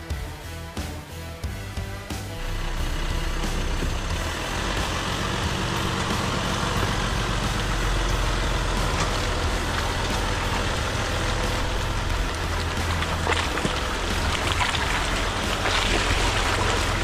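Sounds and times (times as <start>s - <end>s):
vehicle engine running low: 1.5s - 17.0s
tyres on muddy trail: 1.8s - 17.0s.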